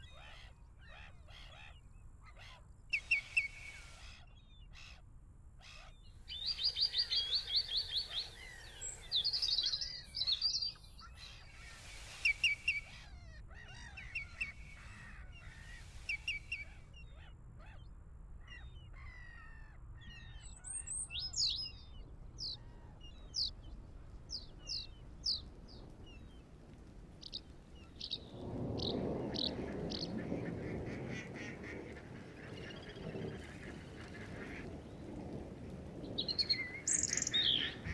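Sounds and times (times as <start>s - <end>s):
birds chirping and trilling: 0.0s - 37.9s.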